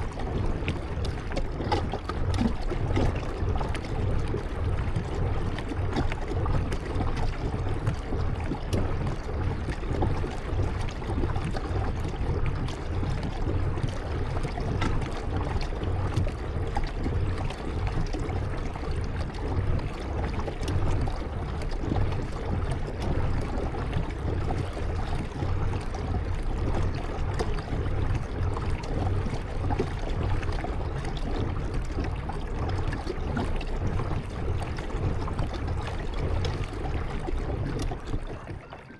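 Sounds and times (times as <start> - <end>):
water drips: 0.0 - 38.9
water splashing off paddle: 0.0 - 38.9.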